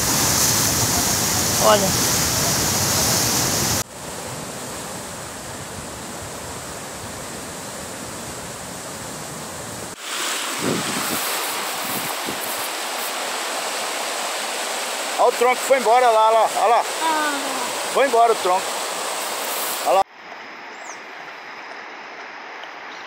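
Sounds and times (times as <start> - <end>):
flooded river rushing: 0.0 - 20.1.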